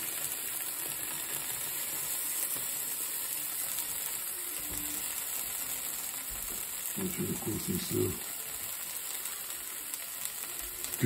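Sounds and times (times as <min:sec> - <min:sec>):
cheese sizzling in a pan: 0:00.0 - 0:11.0.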